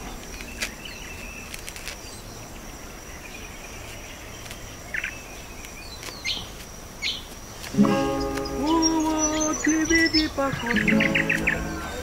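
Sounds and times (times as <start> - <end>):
bird chirps: 0.0 - 12.0
insects droning: 0.0 - 12.0.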